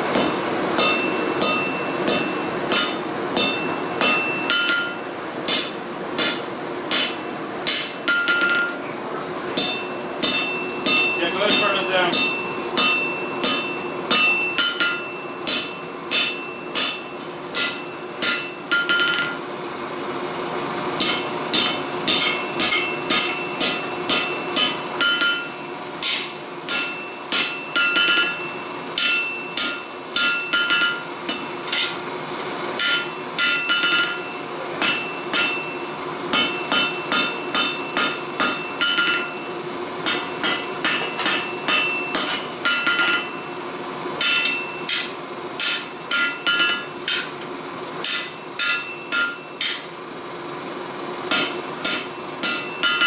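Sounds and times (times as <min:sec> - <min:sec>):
steady hum: 0:00.0 - 0:19.4, 0:20.6 - 0:53.0
hammer striking steel on anvil: 0:00.1 - 0:08.8, 0:09.6 - 0:19.4, 0:21.0 - 0:32.0, 0:32.8 - 0:43.5, 0:44.2 - 0:47.4, 0:48.0 - 0:49.9, 0:51.3 - 0:53.0.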